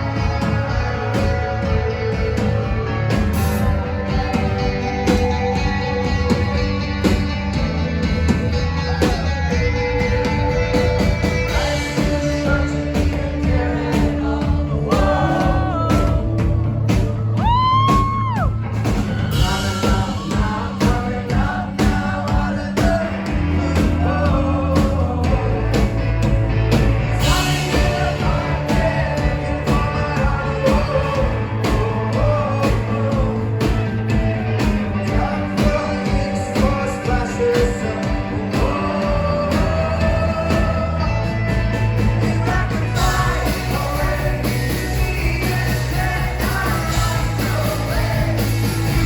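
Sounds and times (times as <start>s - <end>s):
lead singer vocals: 0.0s - 6.8s, 8.6s - 18.6s, 19.2s - 49.0s
live rock band playing: 0.0s - 49.0s.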